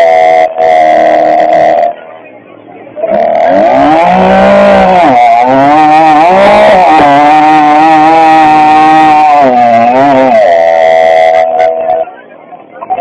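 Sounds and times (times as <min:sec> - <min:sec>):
chainsaw cutting through log: 0:00.0 - 0:02.0, 0:03.0 - 0:12.0.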